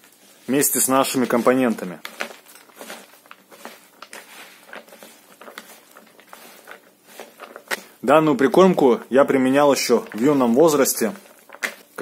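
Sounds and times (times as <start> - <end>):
hands kneading bread squelching: 0.0 - 12.0.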